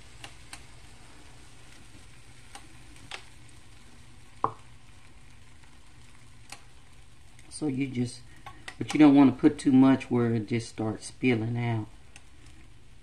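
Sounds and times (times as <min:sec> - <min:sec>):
batter sizzling in waffle iron: 0:00.0 - 0:13.0.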